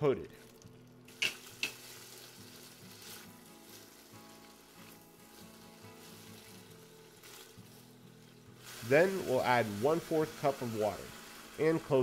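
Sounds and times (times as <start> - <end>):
onions sizzling in oil: 0.6 - 12.0
spatula tossing onions in pot: 1.1 - 11.6.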